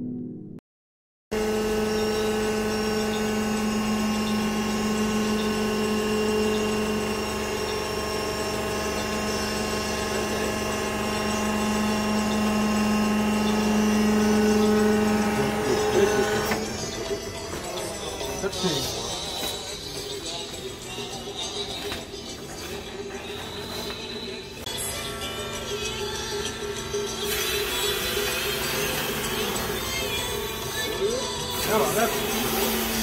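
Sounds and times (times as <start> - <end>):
baling press machinery humming: 1.4 - 33.0.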